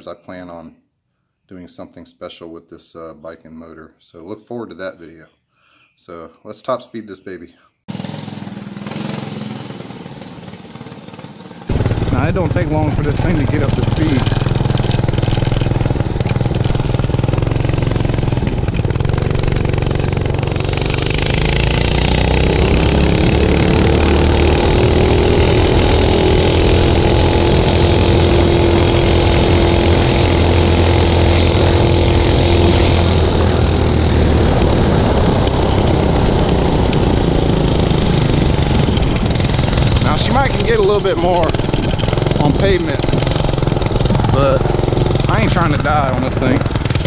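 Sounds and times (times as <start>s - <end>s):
mini bike engine at full throttle: 7.9s - 47.0s.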